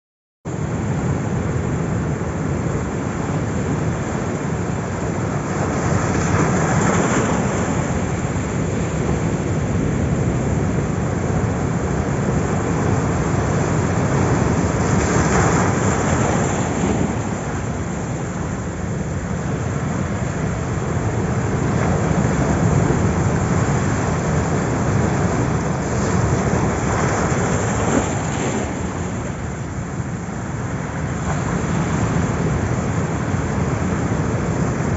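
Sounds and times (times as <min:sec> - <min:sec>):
ocean waves breaking: 0:00.5 - 0:34.9.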